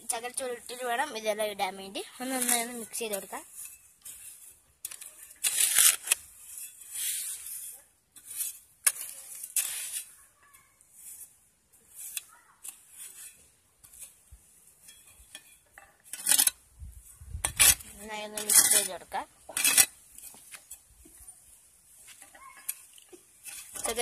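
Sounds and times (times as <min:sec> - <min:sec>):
metal trowel scraping concrete: 0:02.1 - 0:24.0.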